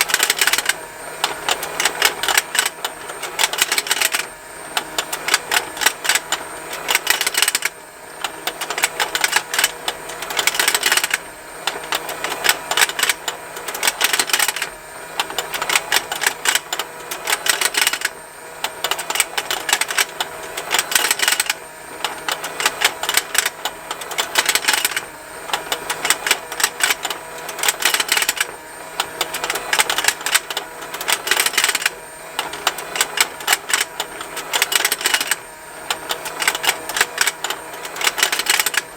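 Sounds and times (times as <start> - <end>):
faint motor hum: 0.0 - 38.9
plastic gears ticking: 0.0 - 38.9.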